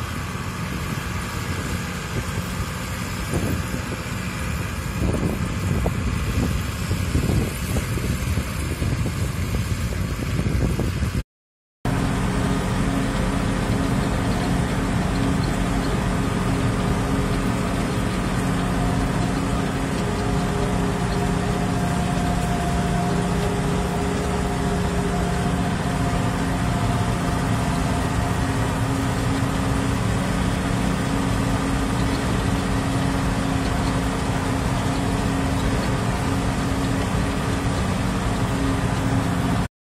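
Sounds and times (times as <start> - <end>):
tractor diesel engine drone: 0.0 - 11.2, 11.9 - 39.7.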